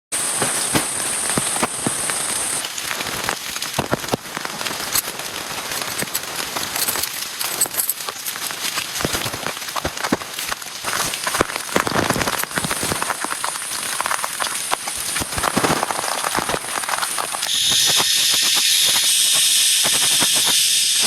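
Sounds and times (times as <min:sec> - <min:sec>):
heavy rain: 0:00.2 - 0:21.0
raindrops ticking close by: 0:00.3 - 0:17.5.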